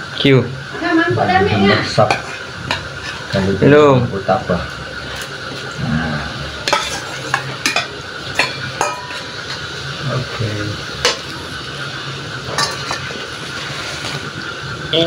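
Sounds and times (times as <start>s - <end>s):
low steady sizzle: 0.0s - 15.0s.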